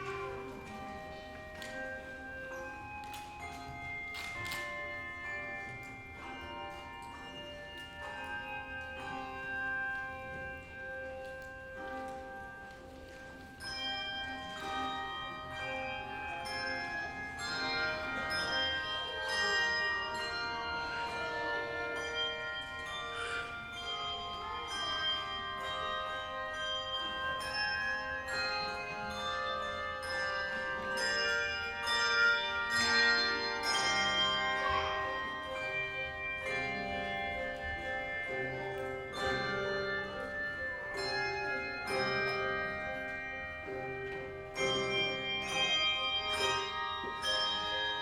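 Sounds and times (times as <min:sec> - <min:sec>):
handbell choir playing: 0:00.0 - 0:48.0.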